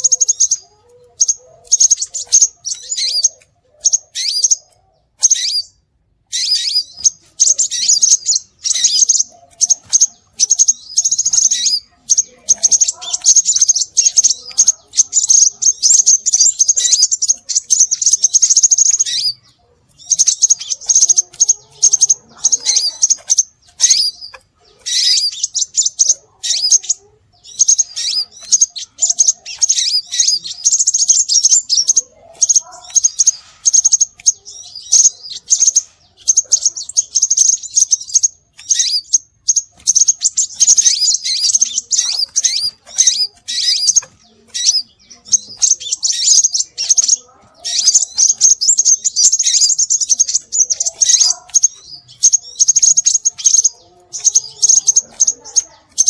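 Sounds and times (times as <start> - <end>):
bird high-pitched chirps: 0.0 - 56.0.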